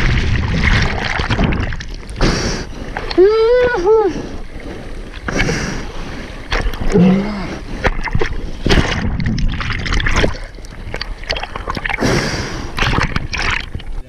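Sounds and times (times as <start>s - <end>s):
sea water splashing: 0.0s - 14.0s.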